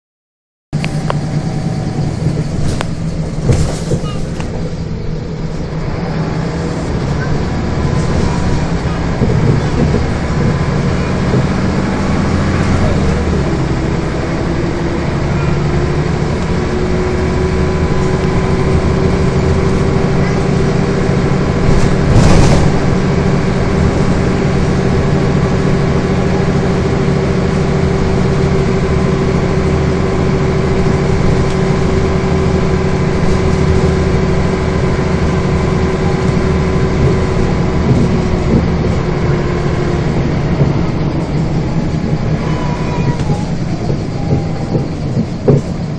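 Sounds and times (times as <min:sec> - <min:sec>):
bus engine running: 0:00.7 - 0:45.9
rising engine whine: 0:00.8 - 0:45.9.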